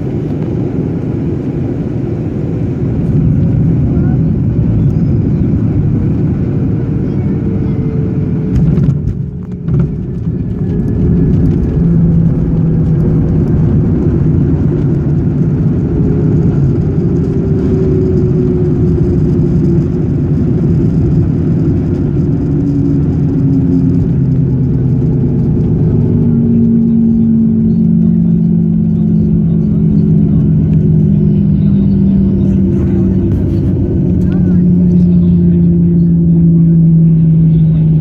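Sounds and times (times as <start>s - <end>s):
airplane cabin engine rumble: 0.0s - 38.0s.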